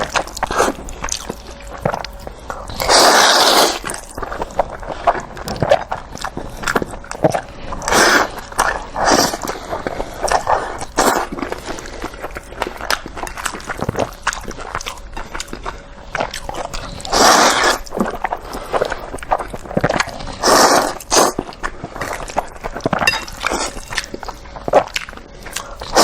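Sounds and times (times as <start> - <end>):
wet chewing of noodles: 0.0 - 26.0.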